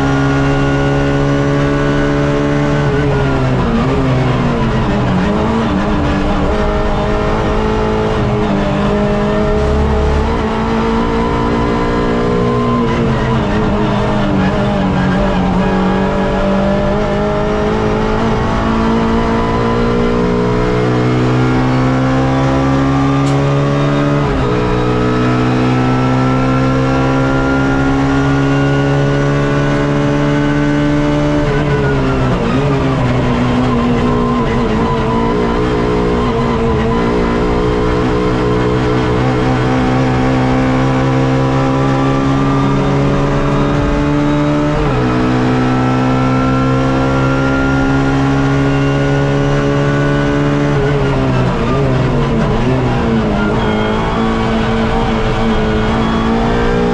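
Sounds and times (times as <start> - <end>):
race car engine accelerating: 0.0 - 56.9.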